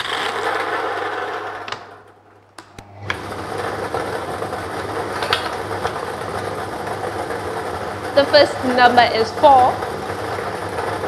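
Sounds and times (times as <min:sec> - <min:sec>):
blower whirring: 0:00.0 - 0:11.0.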